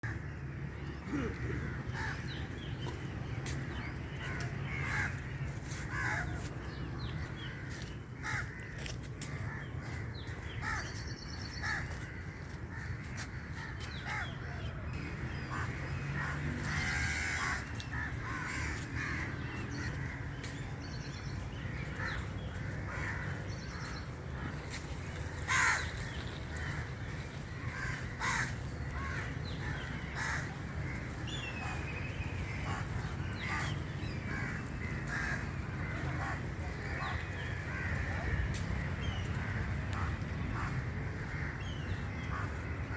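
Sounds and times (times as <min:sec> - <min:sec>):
birds calling harshly: 0:00.0 - 0:42.9.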